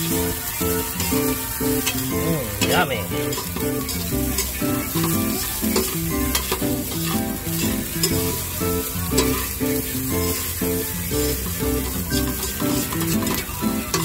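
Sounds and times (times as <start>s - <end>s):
background music: 0.0s - 14.0s
rice sizzling: 0.0s - 14.0s
metal spatula scraping a wok: 1.8s - 14.0s.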